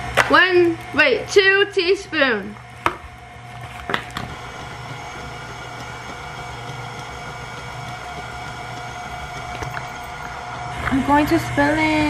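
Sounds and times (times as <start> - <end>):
stand mixer motor humming: 0.0 - 12.0.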